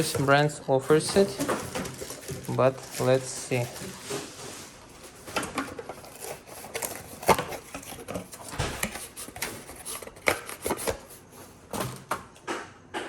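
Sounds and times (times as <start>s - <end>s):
rubbing and rustling: 0.0s - 11.7s.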